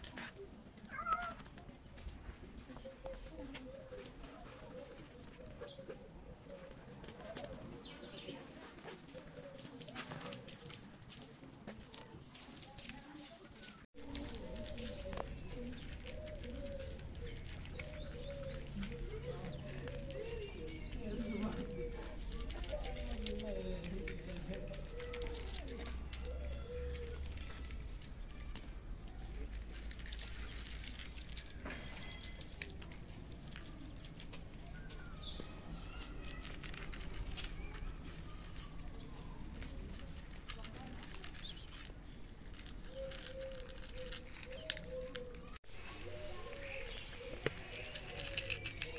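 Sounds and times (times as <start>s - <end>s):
cats crunching dry kibble: 0.0s - 48.9s
small birds chirping: 0.1s - 11.0s, 11.9s - 48.9s
pigeons cooing: 2.7s - 10.8s, 14.0s - 41.5s, 42.8s - 48.9s.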